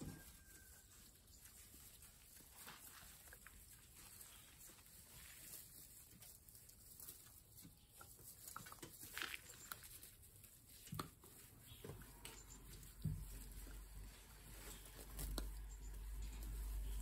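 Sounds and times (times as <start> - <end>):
puppies moving in hay: 0.0 - 17.0.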